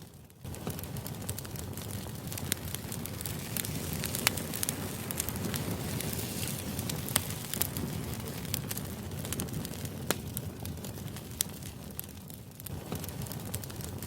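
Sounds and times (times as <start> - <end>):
rumbling hiss: 0.0 - 14.0
sharp crackles and pops: 0.0 - 14.0.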